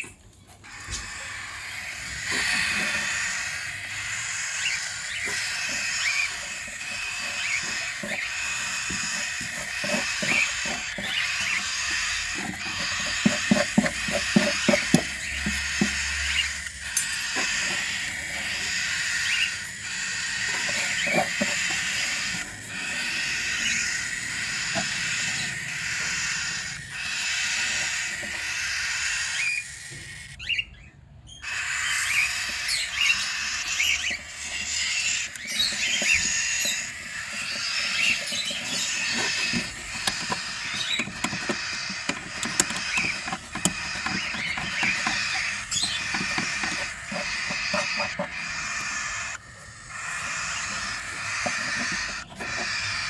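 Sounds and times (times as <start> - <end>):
cockatiels chirping and squawking: 0.0 - 53.0.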